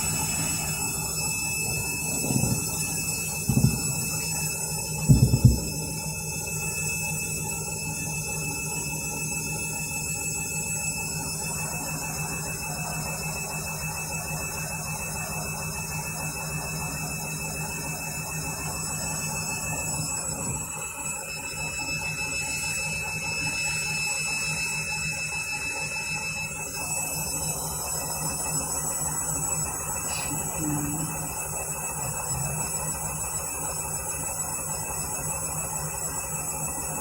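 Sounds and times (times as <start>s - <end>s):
high whine: 0.0s - 37.0s
washing machine running: 0.0s - 37.0s.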